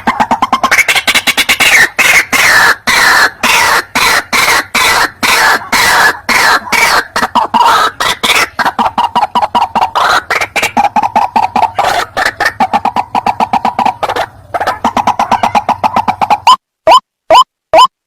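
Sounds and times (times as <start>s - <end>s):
waterhen calling harsh croaks: 0.0s - 17.9s.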